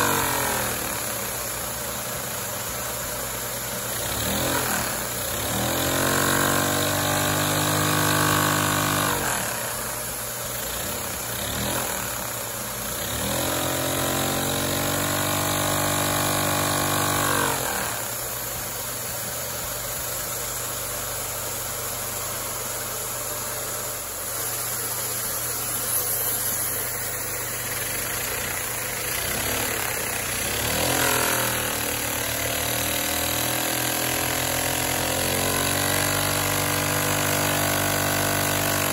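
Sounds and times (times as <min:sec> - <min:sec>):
small engine mechanical hum: 0:00.0 - 0:38.9.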